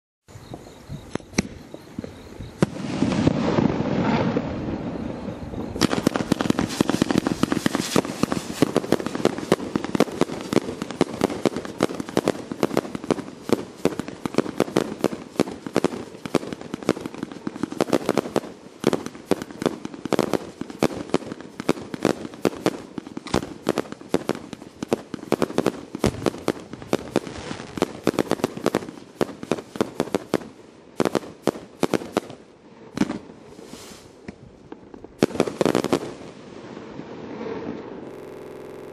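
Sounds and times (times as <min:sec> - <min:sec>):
fireworks bangs: 0:00.5 - 0:38.2
rushing firework noise: 0:01.0 - 0:38.4.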